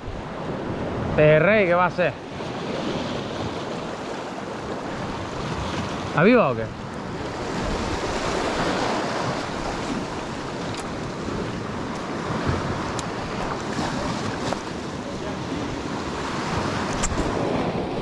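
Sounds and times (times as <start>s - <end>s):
waves breaking over rocks: 0.0s - 18.0s
wind buffeting microphone: 2.6s - 18.0s.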